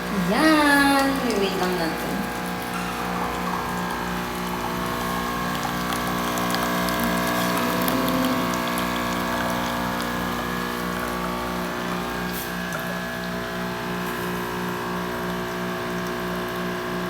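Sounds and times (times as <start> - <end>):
coffee machine pump humming: 0.0 - 17.0.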